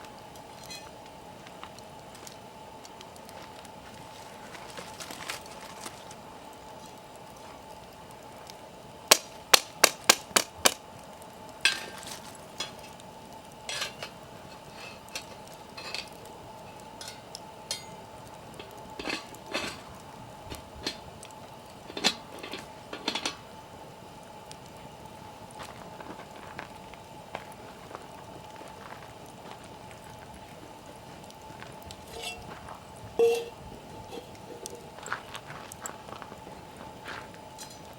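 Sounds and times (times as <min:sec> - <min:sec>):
light clicks and crackles: 0:00.0 - 0:23.5, 0:24.2 - 0:33.1, 0:34.0 - 0:37.9.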